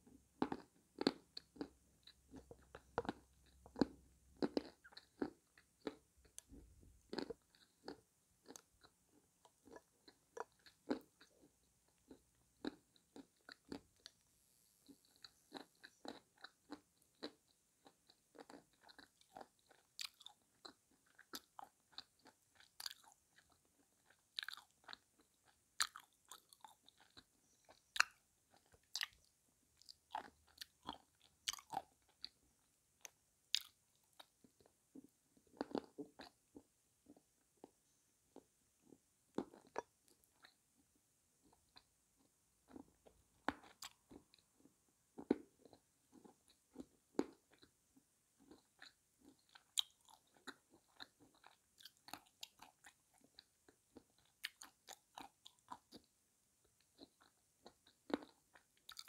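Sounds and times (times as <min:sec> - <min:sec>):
person chewing crunchy clay: 0:00.0 - 0:14.2, 0:14.8 - 0:40.6, 0:41.4 - 0:47.8, 0:48.4 - 0:56.1, 0:56.7 - 0:59.0.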